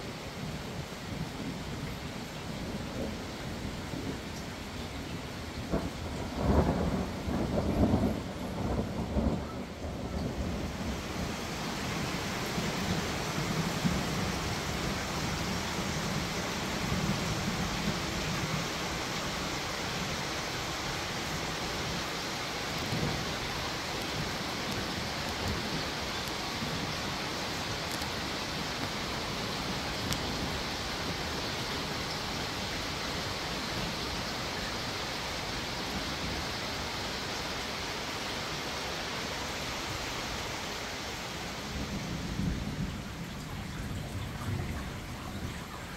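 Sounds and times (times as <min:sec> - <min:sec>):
steady rain falling: 0:00.0 - 0:45.9
distant rolling thunder: 0:00.4 - 0:36.7, 0:41.3 - 0:45.9.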